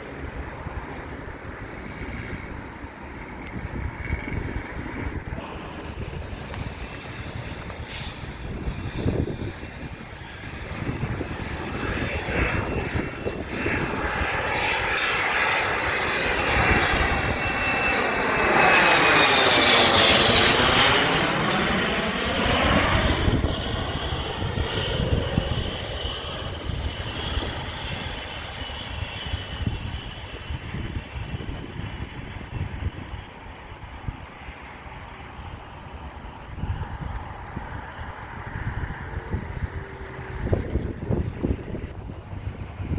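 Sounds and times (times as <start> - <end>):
jet airliner passing overhead: 0.0 - 42.9.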